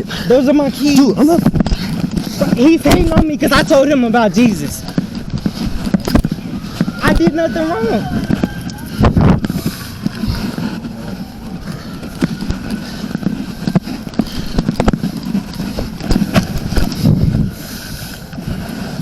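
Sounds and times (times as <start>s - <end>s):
footsteps: 0.0s - 19.0s
clothing rustling: 0.7s - 17.6s.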